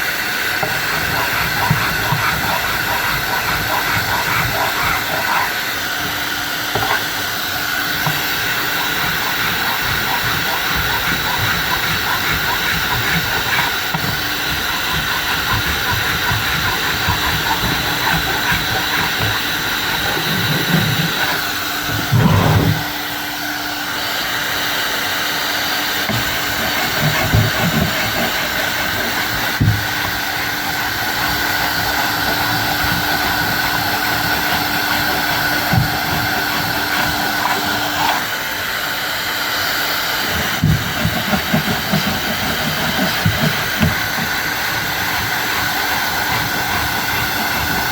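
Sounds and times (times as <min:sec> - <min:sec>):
electric power tool humming: 0:00.0 - 0:47.9.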